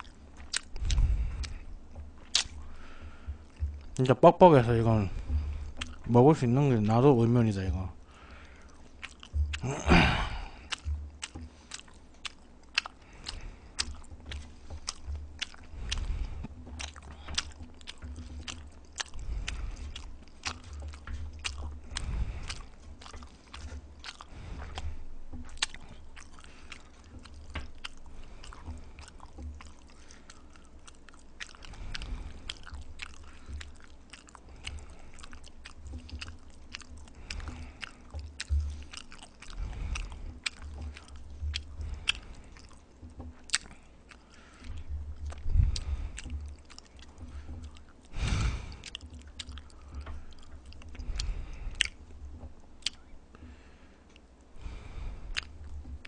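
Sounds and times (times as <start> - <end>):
wet mouth clicks and smacks: 0.0 - 6.2, 8.3 - 53.5, 54.1 - 56.0
chewing noodles: 0.0 - 56.0.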